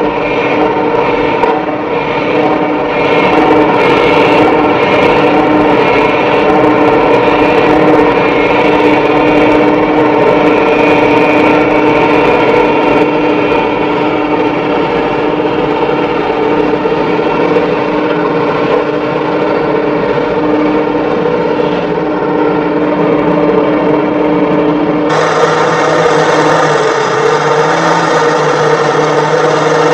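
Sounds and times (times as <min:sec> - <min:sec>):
diesel engines running hard: 0:00.0 - 0:29.9
even mechanical whine: 0:00.0 - 0:29.9.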